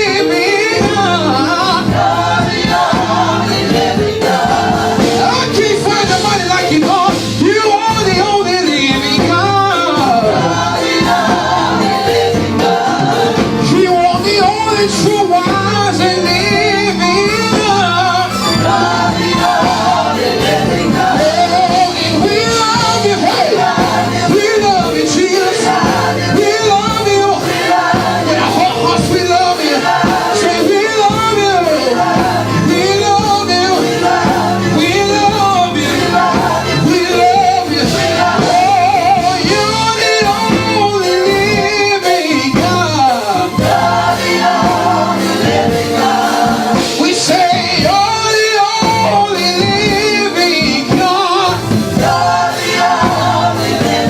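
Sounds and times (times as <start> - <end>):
gospel worship song: 0.0 - 54.0.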